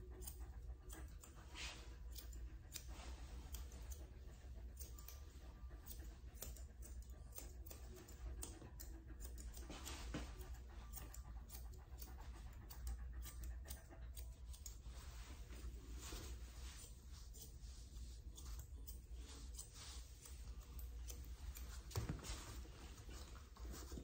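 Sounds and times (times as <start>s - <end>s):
shears snipping dog fur: 0.0s - 24.0s.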